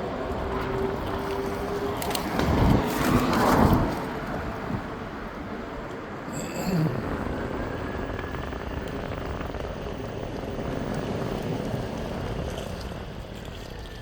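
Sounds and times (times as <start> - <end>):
skateboard wheels rumbling on pavement: 0.0 - 6.2, 7.1 - 14.0.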